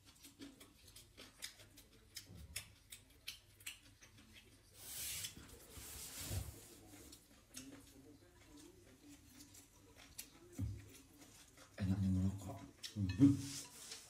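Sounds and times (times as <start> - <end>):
chewing and lip-smacking: 0.0 - 5.4, 6.9 - 13.1.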